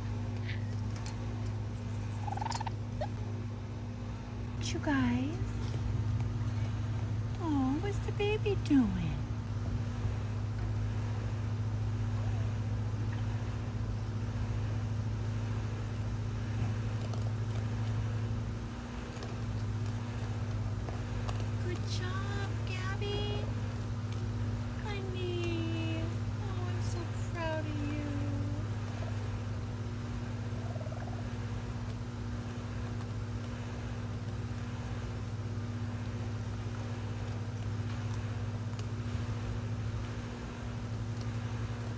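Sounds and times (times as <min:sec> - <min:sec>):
low mechanical machine hum: 0:00.0 - 0:41.9.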